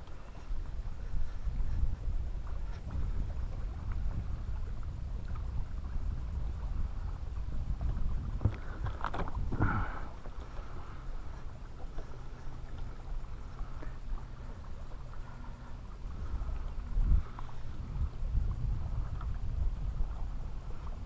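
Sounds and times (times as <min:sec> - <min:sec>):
wind and water rumble: 0:00.0 - 0:21.0.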